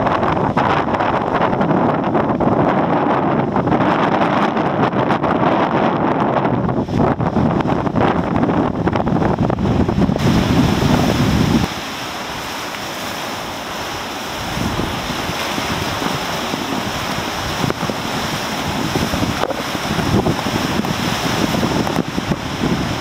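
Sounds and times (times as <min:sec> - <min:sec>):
surf washing over rocky shore: 0:00.0 - 0:23.0
wind buffeting microphone: 0:00.0 - 0:23.0.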